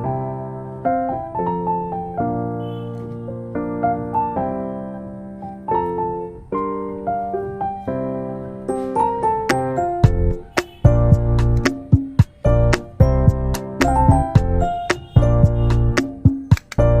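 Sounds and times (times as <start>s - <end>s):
slow gentle piano melody: 0.0s - 17.0s.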